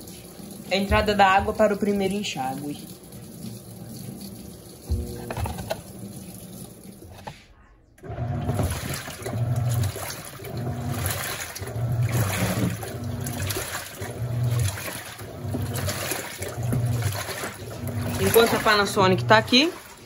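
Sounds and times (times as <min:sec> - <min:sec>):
water running into drum: 0:00.0 - 0:07.4, 0:08.0 - 0:20.0
washing machine agitating: 0:00.0 - 0:20.0.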